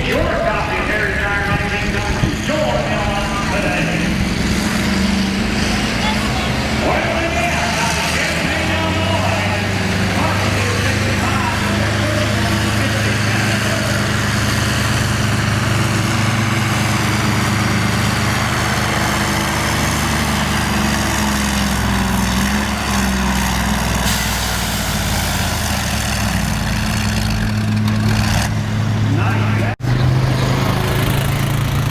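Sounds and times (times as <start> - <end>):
tractor engine running steadily: 0.0 - 31.9.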